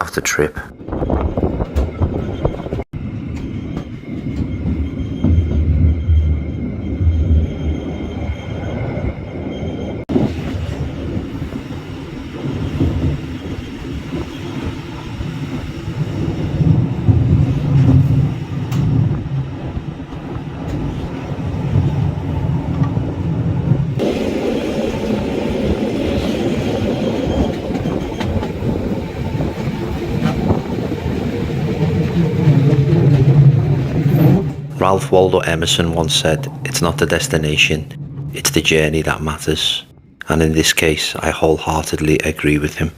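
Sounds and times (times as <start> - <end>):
train rumbling on rails: 0.0 - 42.9.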